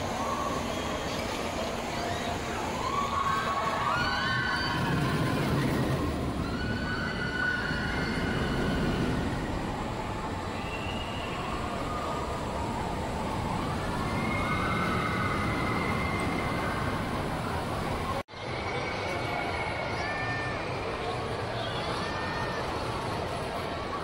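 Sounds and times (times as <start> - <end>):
crowd and ride noise: 0.0 - 24.0.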